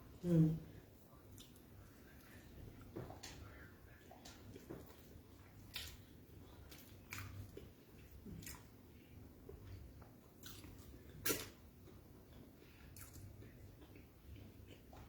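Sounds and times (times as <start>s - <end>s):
person chewing food: 1.1s - 15.0s.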